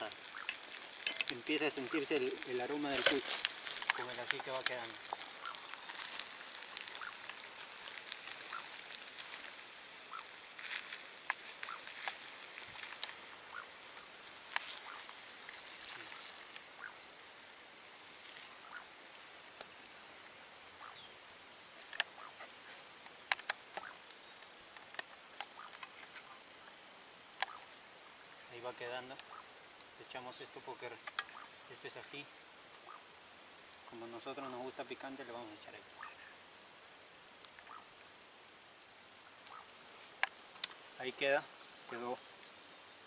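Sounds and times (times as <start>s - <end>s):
faint steady high hiss: 0.0s - 43.0s.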